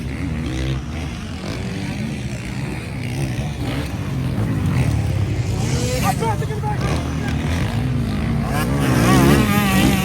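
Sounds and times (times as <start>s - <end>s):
motorcycle engines revving: 0.0s - 10.0s.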